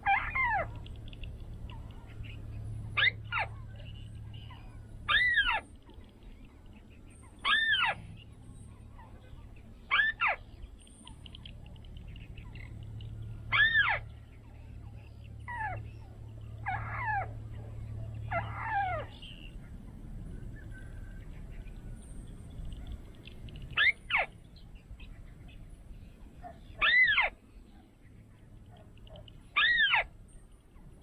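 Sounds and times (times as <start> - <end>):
bird calling: 0.0 - 31.0
low steady hum: 0.0 - 31.0.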